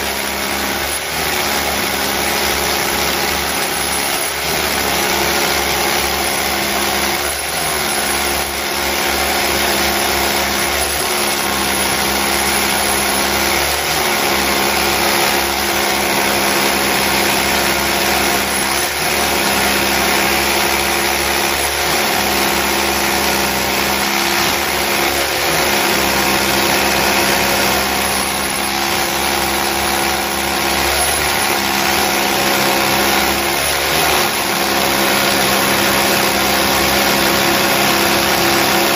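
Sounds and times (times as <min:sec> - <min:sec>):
rotary hammers drilling concrete: 0:00.0 - 0:38.9.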